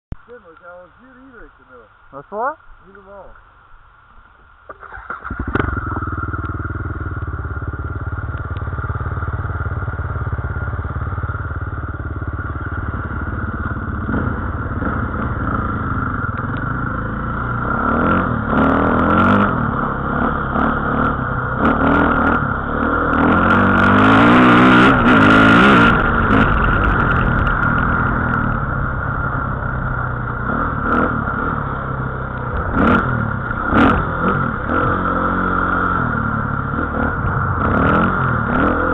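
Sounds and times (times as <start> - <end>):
dirt bike engine revving: 4.8 - 38.9.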